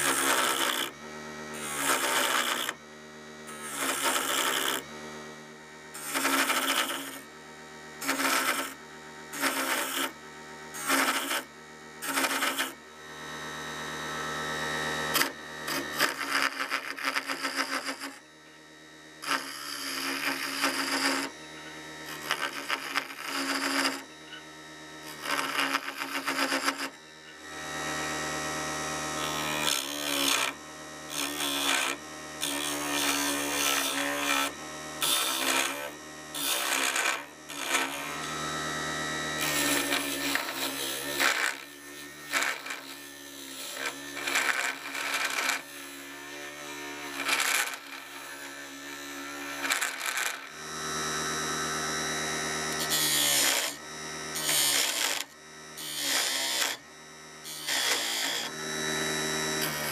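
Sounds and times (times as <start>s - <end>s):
turning tool scraping wood: 0.0s - 2.8s, 3.5s - 5.0s, 6.0s - 7.3s, 8.0s - 12.8s, 14.9s - 18.3s, 19.2s - 28.0s, 29.0s - 50.6s, 52.6s - 56.8s, 57.4s - 59.9s
lathe motor humming: 0.0s - 59.9s.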